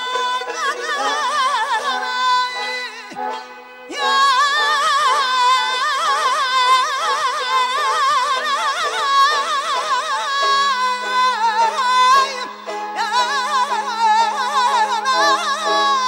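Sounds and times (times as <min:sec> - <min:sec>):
man singing with throat trills: 0:00.0 - 0:16.0.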